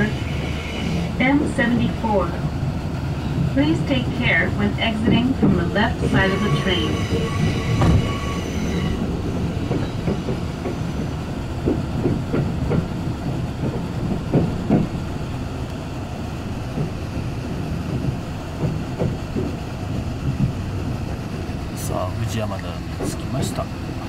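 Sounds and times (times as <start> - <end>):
train running rumble: 0.0 - 24.0
wheel clacks over rail joints: 3.2 - 15.8, 16.5 - 23.8.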